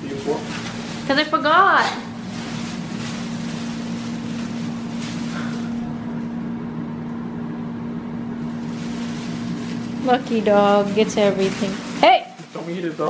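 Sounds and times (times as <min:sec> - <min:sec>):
air fryer fan humming: 0:00.0 - 0:13.0.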